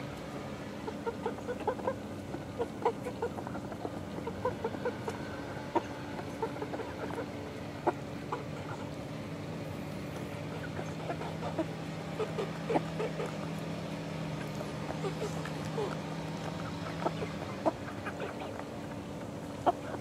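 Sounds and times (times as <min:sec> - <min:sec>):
chickens clucking: 0:00.0 - 0:20.0
steady low hum: 0:00.0 - 0:20.0.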